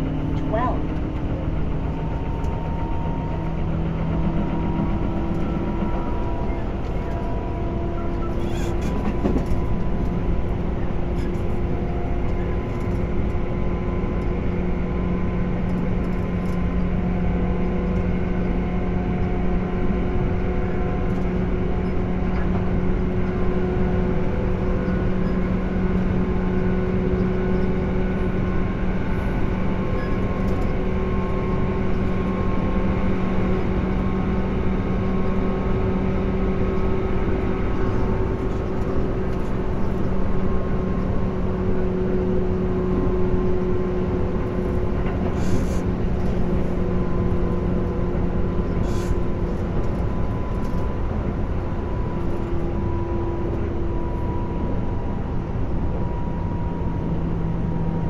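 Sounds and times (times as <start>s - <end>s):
train motor hum: 0.0s - 58.0s
train wheel and rail noise: 0.0s - 58.0s.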